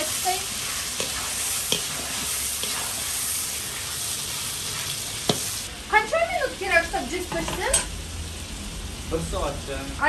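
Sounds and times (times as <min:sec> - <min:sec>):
meat sizzling in fat: 0:00.0 - 0:10.0.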